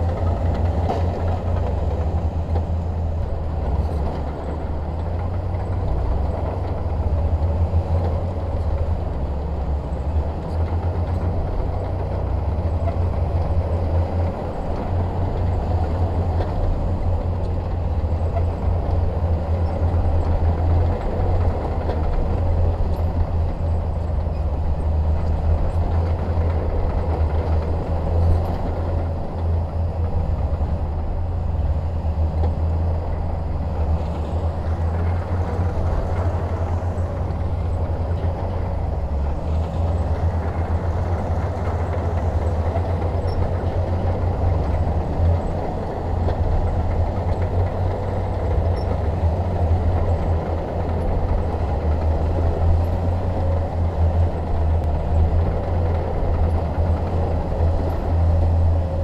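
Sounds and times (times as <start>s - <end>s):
heavy diesel machinery droning: 0.0s - 59.0s.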